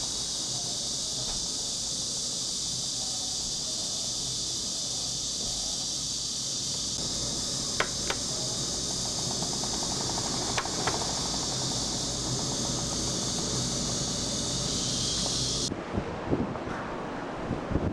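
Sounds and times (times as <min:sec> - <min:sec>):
air conditioner fan whirring: 0:00.0 - 0:17.9.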